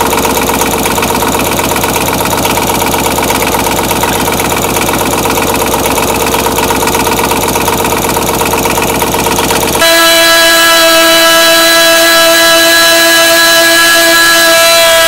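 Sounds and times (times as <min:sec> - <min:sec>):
motorbike engine idling: 0:00.0 - 0:15.0.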